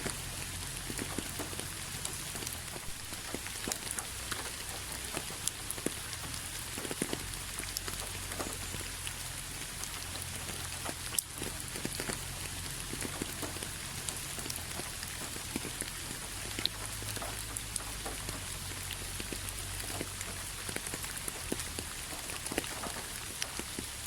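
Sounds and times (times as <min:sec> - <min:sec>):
rain pattering on a surface: 0:00.0 - 0:24.0.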